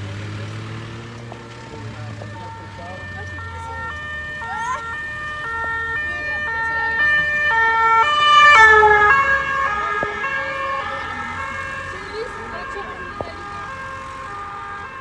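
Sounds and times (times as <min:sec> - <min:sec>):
two-tone emergency siren: 0:01.3 - 0:15.0.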